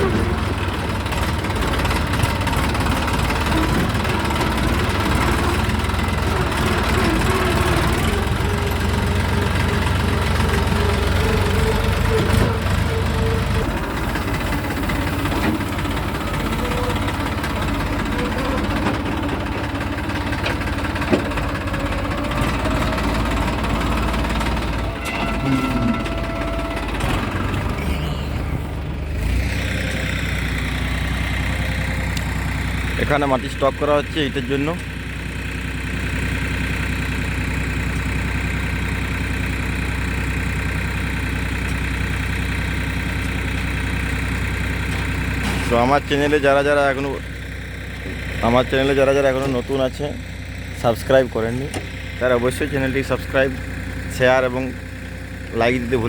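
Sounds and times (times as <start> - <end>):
diesel engine clattering: 0.0 - 56.0.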